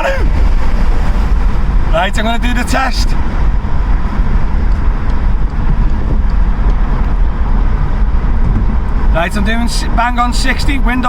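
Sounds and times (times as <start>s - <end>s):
tyre and road noise: 0.0s - 11.0s
wind buffeting through car windows: 0.0s - 11.0s.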